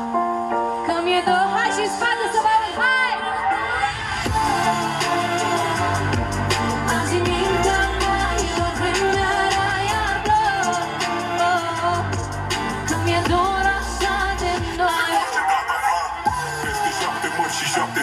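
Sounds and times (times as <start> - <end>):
live pop song with singing: 0.8 - 18.0.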